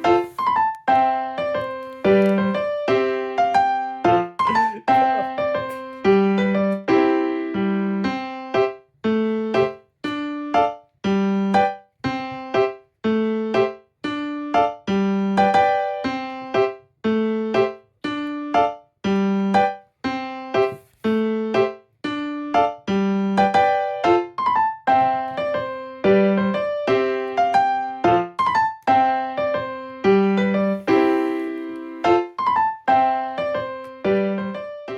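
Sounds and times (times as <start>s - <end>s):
simple repeating piano tune: 0.0s - 34.9s.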